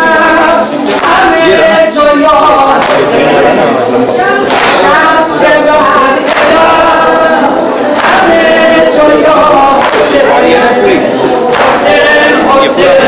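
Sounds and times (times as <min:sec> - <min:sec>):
men chanting together: 0:00.0 - 0:13.0
sharp beat: 0:00.7 - 0:13.0.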